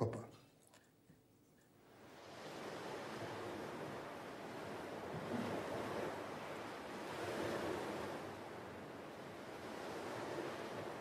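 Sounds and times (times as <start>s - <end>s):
sea waves washing on shore: 1.8s - 11.0s.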